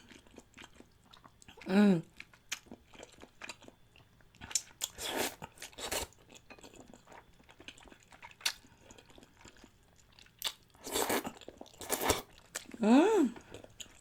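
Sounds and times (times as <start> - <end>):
person chewing with wet smacks: 0.0 - 12.8, 13.4 - 14.0.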